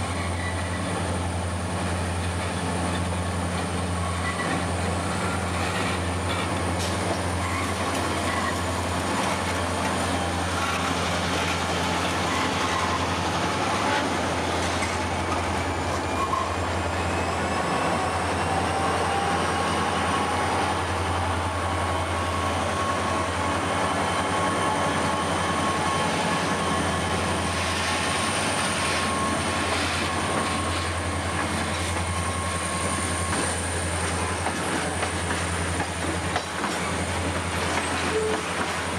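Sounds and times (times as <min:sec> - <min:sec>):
wheel squeal: 0:00.0 - 0:01.2, 0:02.2 - 0:38.9
diesel locomotives droning: 0:00.0 - 0:38.9.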